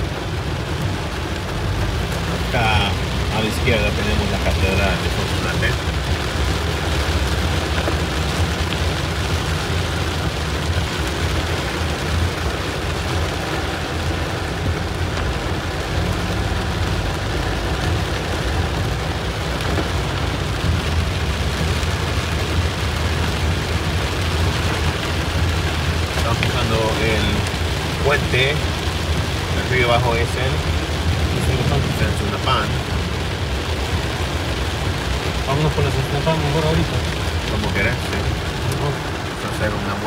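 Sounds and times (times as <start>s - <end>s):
car and tyres rumbling on wet road: 0.0s - 40.0s
heavy rain pelting a car: 0.0s - 40.0s.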